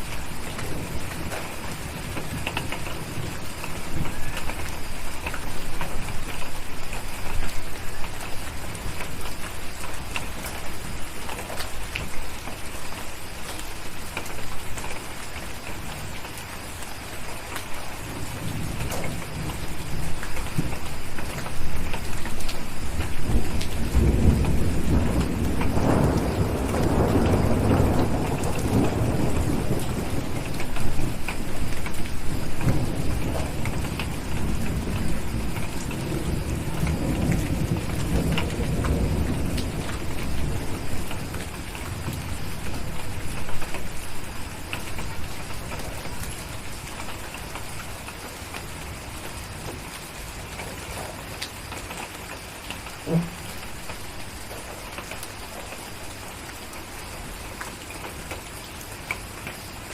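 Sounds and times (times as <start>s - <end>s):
low rumble of thunder: 0.0s - 16.3s, 17.2s - 51.7s, 52.4s - 55.7s
steady rain falling: 0.0s - 59.9s.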